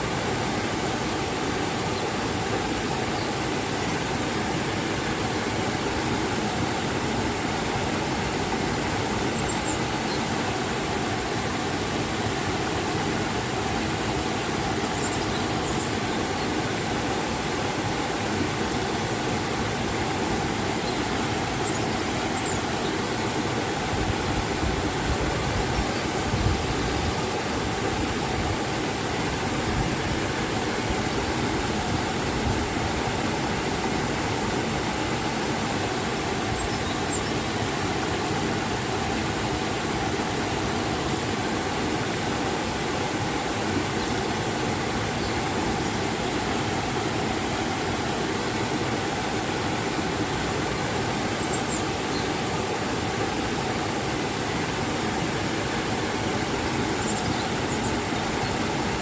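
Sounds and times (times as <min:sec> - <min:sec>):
river and waterfall rushing: 0:00.0 - 0:59.0.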